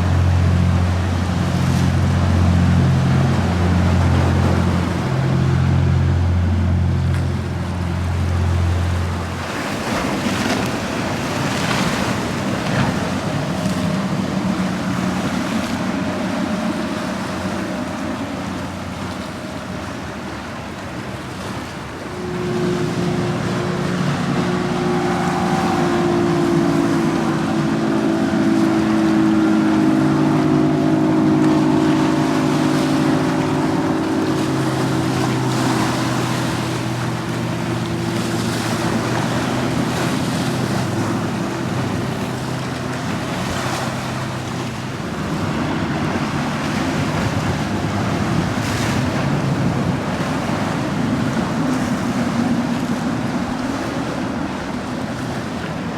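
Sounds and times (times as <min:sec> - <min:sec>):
breaking waves: 0:00.0 - 0:55.9
motorboat engine droning: 0:00.0 - 0:55.9.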